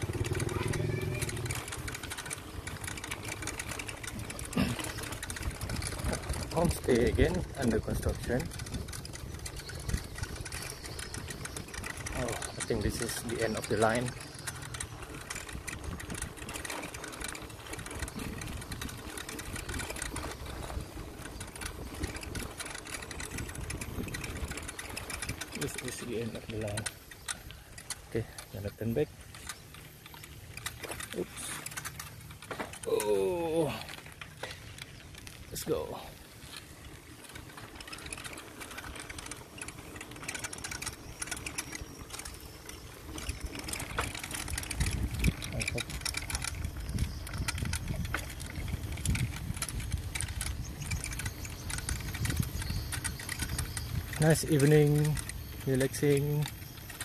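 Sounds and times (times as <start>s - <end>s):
bicycle rattling on concrete: 0.0s - 57.0s
tyres and wind rumble: 0.0s - 57.0s.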